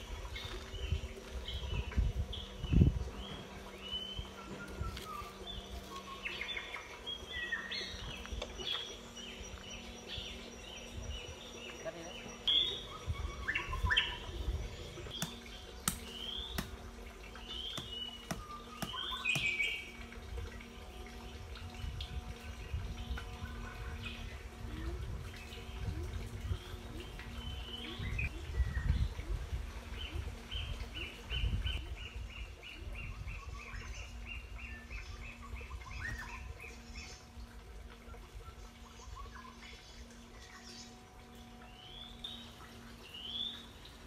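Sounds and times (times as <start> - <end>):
wild birds chirping: 0.0 - 44.0.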